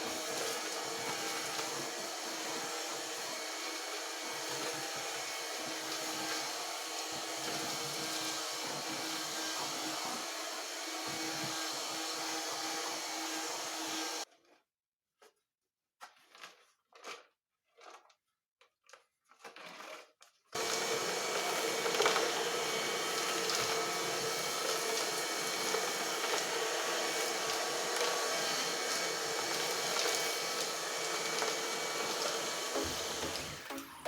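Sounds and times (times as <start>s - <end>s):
vacuum cleaner humming and whining: 0.0s - 14.2s, 20.6s - 34.0s.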